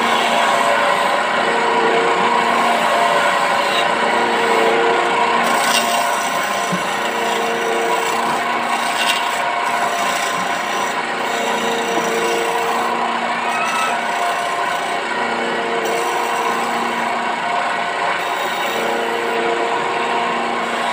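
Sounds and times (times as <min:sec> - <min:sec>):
chisel scraping spinning wood: 0:00.0 - 0:20.9
electric motor hum: 0:00.0 - 0:20.9.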